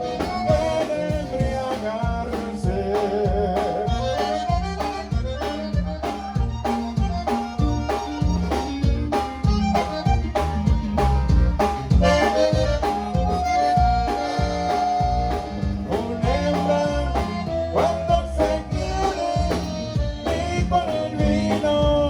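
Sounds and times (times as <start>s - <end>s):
bajo sexto: 0.0s - 22.0s
bass: 0.0s - 22.0s
button accordion melody: 0.0s - 22.0s
drums keeping a beat: 0.0s - 22.0s.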